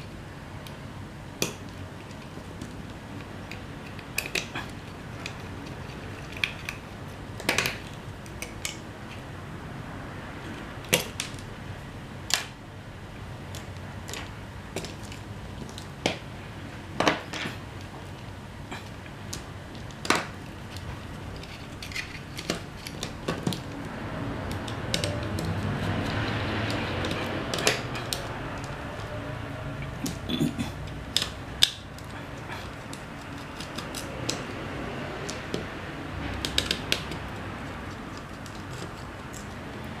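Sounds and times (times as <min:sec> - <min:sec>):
steady noise: 0:00.0 - 0:40.0.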